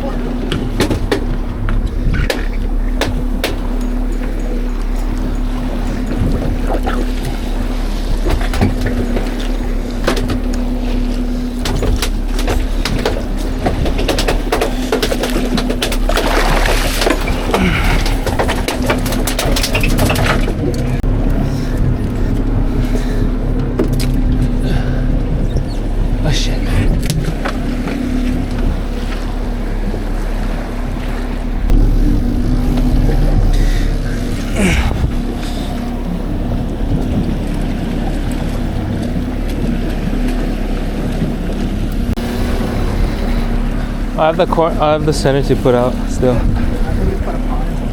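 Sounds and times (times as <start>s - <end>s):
boat motor droning: 0.0s - 47.9s
hull knocking and splashing: 0.0s - 47.9s
rushing water: 0.0s - 47.9s
wind buffeting microphone: 0.0s - 47.9s.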